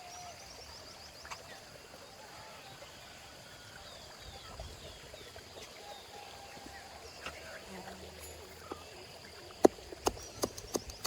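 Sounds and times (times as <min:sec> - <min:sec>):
birds chirping: 0:00.0 - 0:11.0
running water: 0:00.0 - 0:11.0.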